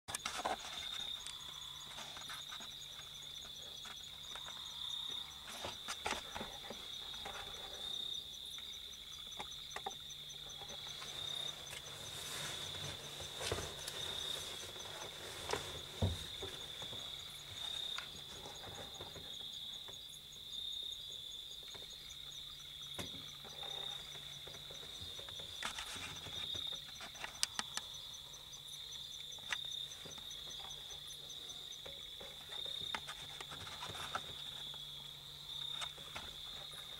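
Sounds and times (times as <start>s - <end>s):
insects trilling: 0.1s - 36.9s
pulsing insect chirp: 0.2s - 36.9s.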